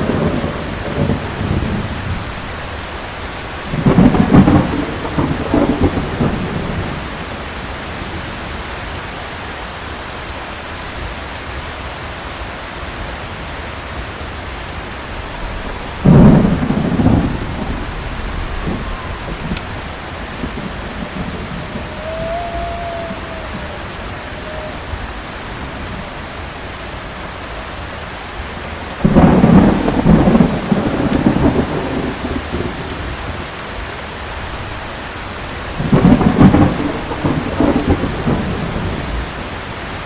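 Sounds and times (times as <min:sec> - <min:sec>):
thunder rumbling: 0:00.0 - 0:08.6, 0:14.0 - 0:27.4, 0:28.5 - 0:40.0
heavy rain: 0:00.0 - 0:40.0.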